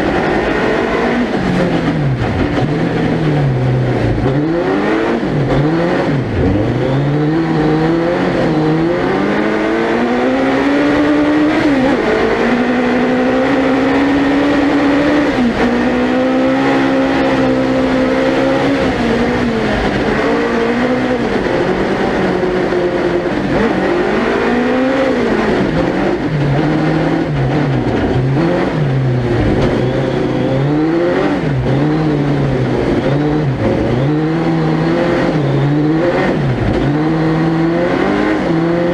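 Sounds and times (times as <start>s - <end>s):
motorcycle engine revving hard: 0.0s - 38.9s.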